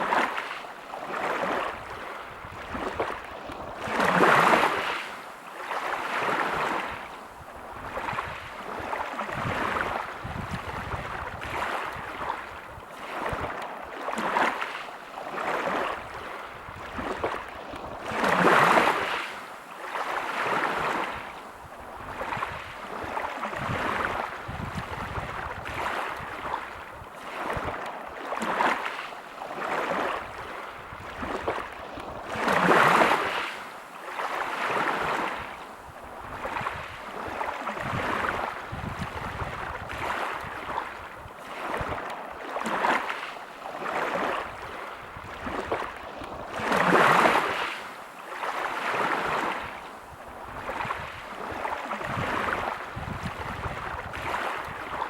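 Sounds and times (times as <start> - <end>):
waves breaking on pebble beach: 0.0 - 7.1, 7.8 - 21.3, 22.1 - 35.6, 36.3 - 55.0.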